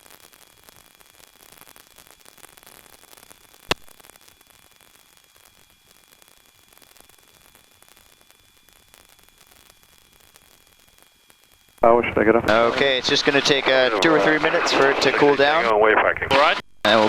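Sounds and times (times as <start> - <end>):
faint static hiss: 0.0 - 17.0
thin high whine: 3.3 - 17.0.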